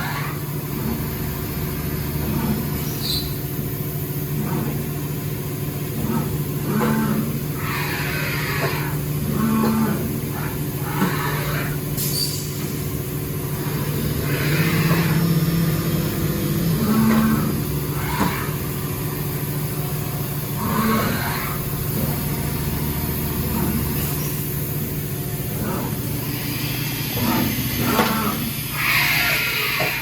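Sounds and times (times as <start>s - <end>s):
machine humming: 0.0s - 30.0s
machine whirring bursts: 0.0s - 30.0s.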